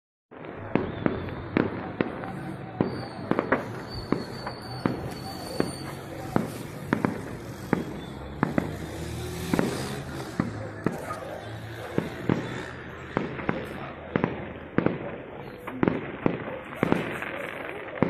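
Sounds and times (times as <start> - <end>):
fireworks banging: 0.3 - 18.0.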